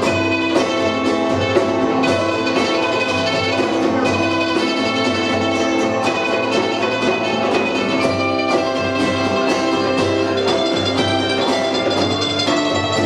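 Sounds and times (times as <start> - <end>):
punk band playing live: 0.0 - 13.0.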